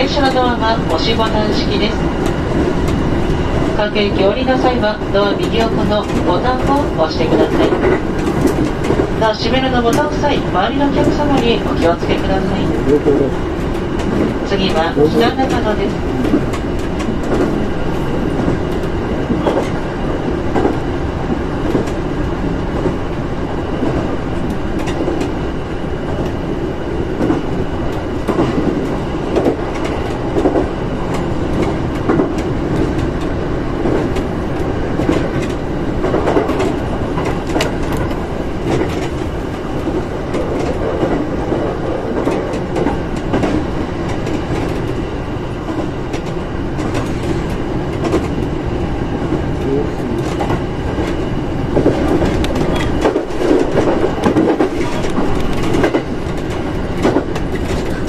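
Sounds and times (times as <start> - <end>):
train wheels running on rails: 0.0 - 58.0.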